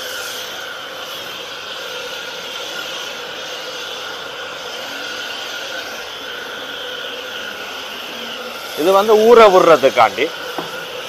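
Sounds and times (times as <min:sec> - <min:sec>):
foam spray hissing: 0:00.0 - 0:11.0
pump humming: 0:00.0 - 0:11.0.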